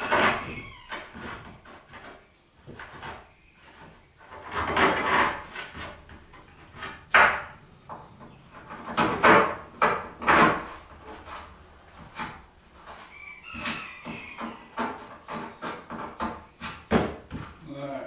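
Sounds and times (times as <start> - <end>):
wood scraping and knocking on wood: 0.0 - 17.7.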